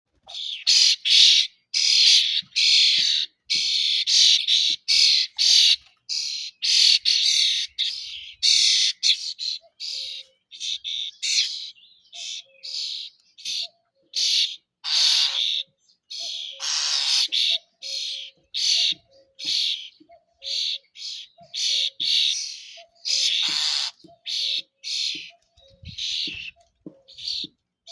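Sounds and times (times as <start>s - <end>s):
starling singing: 0.3s - 27.9s.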